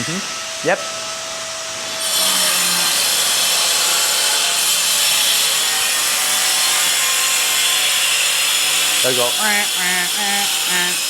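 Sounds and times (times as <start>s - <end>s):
power tool cutting: 1.1s - 11.0s.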